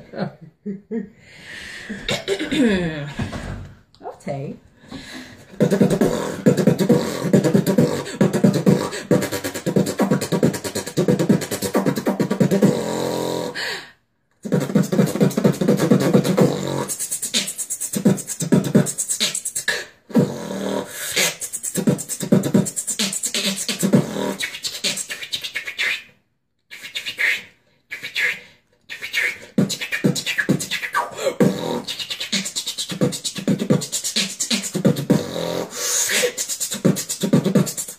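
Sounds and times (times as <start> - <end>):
person beatboxing: 1.9 - 3.3, 5.0 - 13.7, 14.4 - 37.9.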